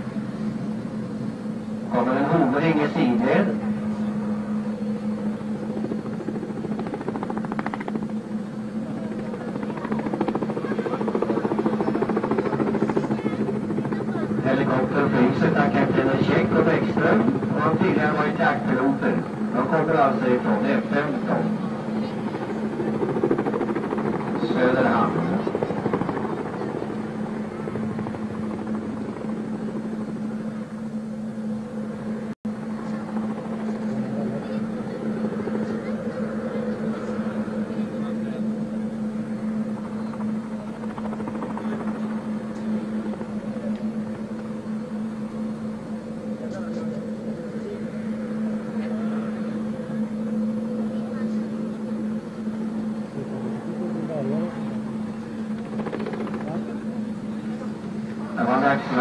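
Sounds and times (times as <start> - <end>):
helicopter hum: 0.0 - 59.0
helicopter rotor chop: 0.0 - 59.0.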